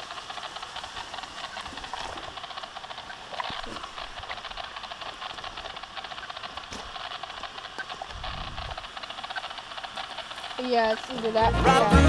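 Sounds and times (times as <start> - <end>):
radio receiver static hiss: 0.0 - 12.0.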